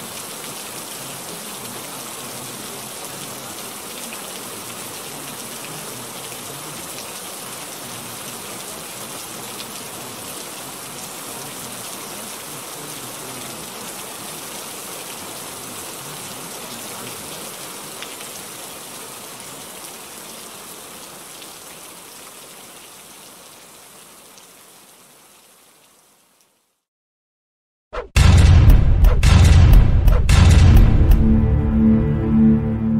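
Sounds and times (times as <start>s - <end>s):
rain-like rushing noise: 0.0s - 26.9s.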